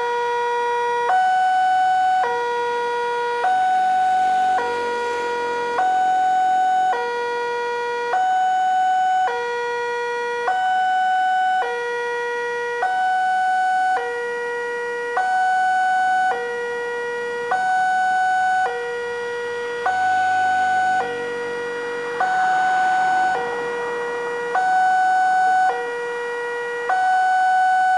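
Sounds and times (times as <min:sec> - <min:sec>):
level crossing two-tone alarm: 0:01.1 - 0:27.9.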